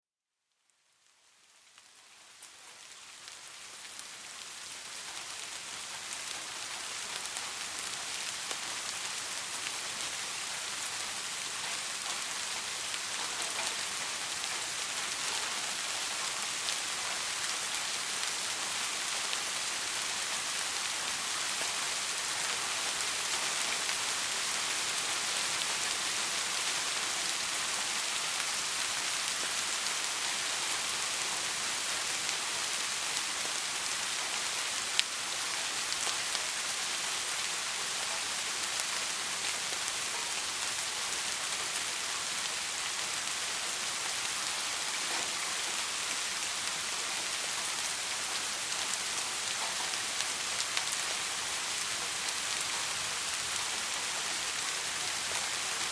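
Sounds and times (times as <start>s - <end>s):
soft rain falling: 0.3s - 55.9s.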